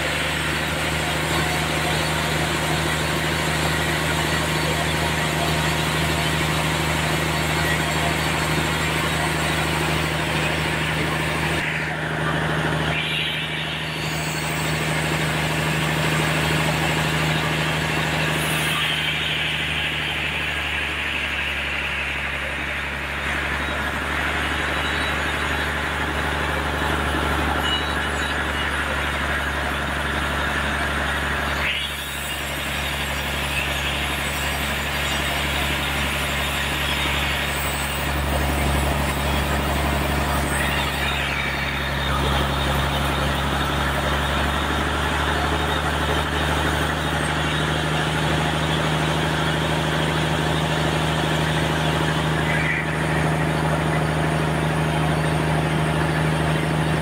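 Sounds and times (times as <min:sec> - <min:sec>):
saw blade cutting log: 0:00.0 - 0:55.2
sawmill motor hum: 0:00.0 - 0:57.0.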